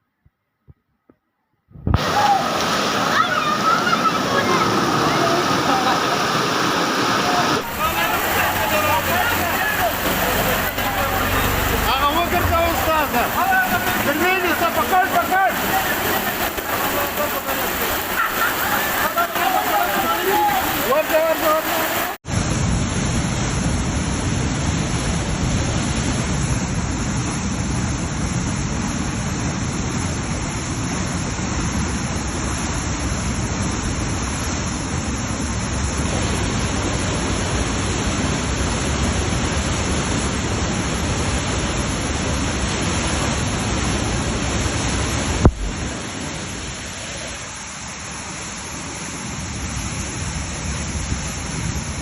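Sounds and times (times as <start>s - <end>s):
rushing floodwater: 1.9s - 52.0s.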